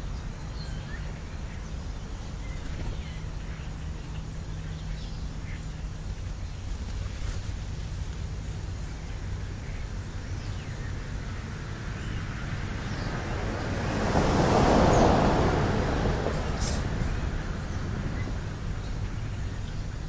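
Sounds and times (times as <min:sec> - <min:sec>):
low outdoor rumble: 0:00.0 - 0:20.0
vehicle passing: 0:00.0 - 0:20.0.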